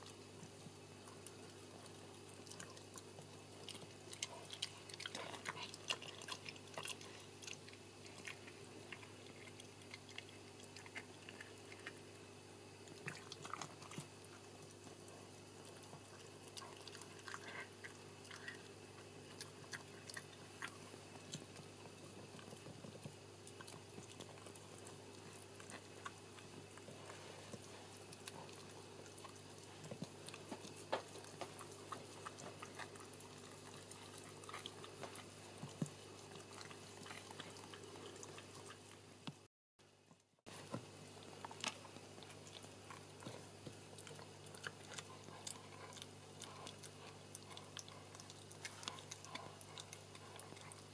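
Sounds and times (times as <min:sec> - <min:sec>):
dog licking and chewing: 0:00.0 - 0:39.1, 0:40.5 - 0:50.9
steady low hum: 0:00.0 - 0:50.9.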